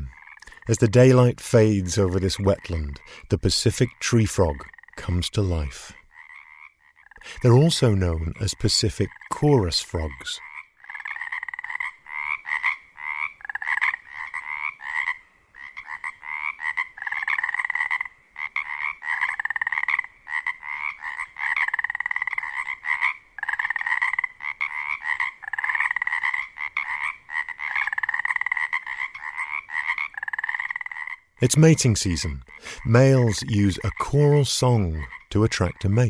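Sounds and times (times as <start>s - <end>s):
chorus of frogs croaking: 0.0s - 36.0s.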